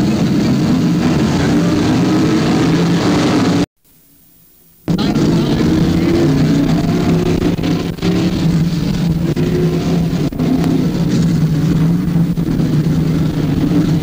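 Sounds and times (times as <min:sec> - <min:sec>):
race car engines: 0:00.0 - 0:03.7, 0:04.9 - 0:14.0.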